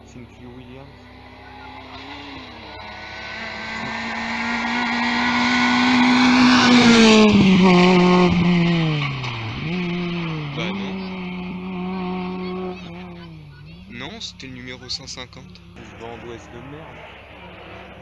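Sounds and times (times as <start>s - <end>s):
rally car engine passing: 0.0s - 18.0s.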